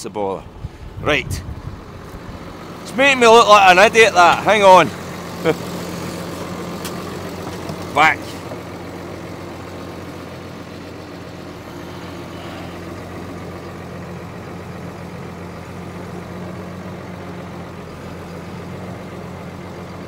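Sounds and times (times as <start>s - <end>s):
tractor engine idling from cab: 0.0s - 20.0s.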